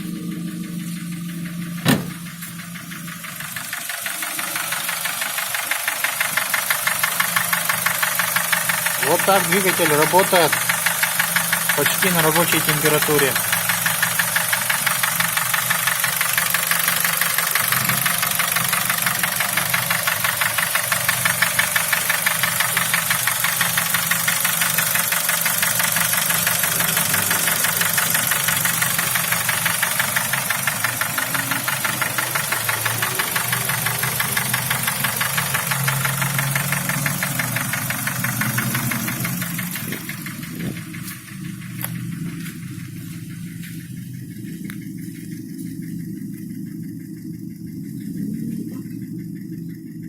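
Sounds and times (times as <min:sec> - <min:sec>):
petrol engine running: 0:00.0 - 0:50.0
rapid engine knock ticking: 0:00.0 - 0:50.0.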